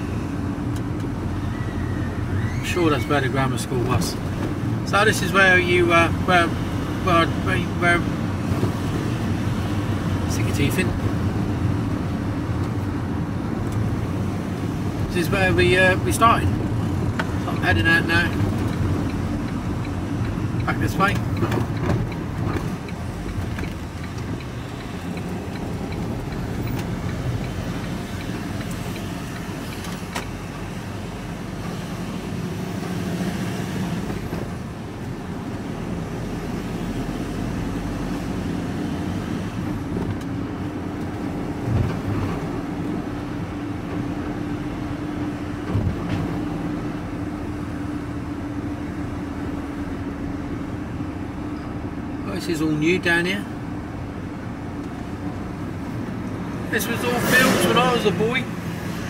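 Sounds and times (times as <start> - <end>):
engine and road noise in cabin: 0.0 - 59.0.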